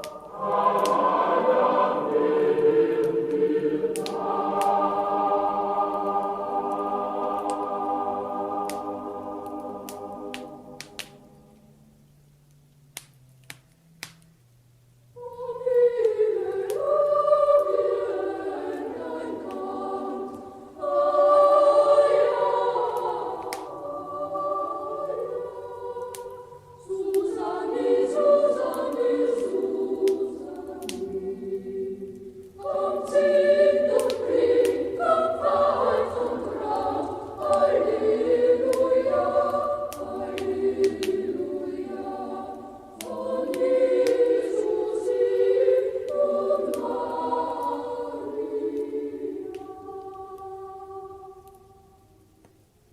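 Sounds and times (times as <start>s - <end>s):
choir singing: 0.0s - 11.6s, 15.2s - 52.3s
crackling wood fire: 0.0s - 52.9s.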